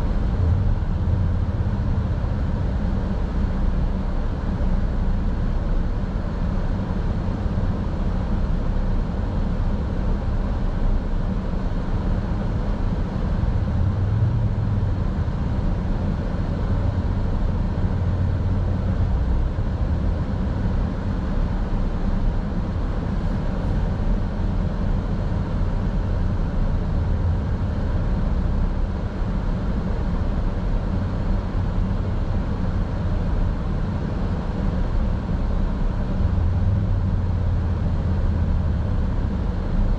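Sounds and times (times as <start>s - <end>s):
car driving road noise: 0.0s - 39.9s.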